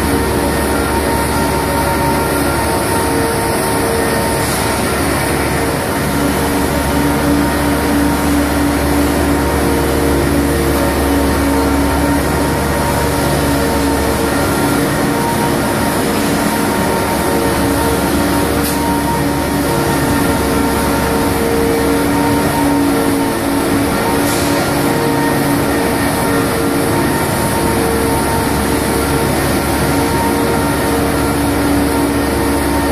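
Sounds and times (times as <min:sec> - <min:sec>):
steady hum: 0:00.0 - 0:32.9
transporter engine droning: 0:00.0 - 0:32.9.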